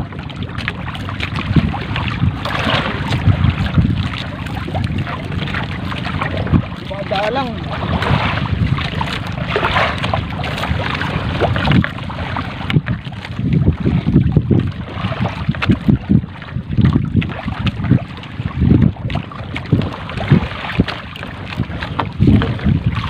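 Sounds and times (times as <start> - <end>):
water splashing and dripping: 0.0 - 23.0
wind buffeting microphone: 0.0 - 23.0.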